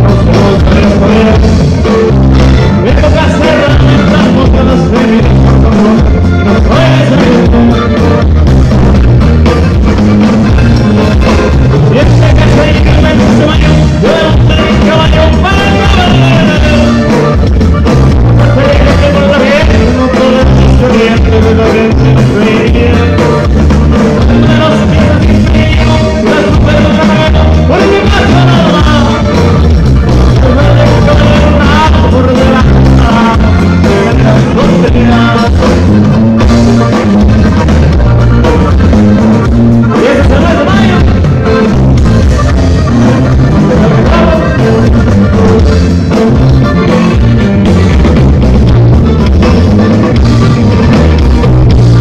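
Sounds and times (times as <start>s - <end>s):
accordion melody: 0.0s - 52.0s
live band through speakers: 0.0s - 52.0s.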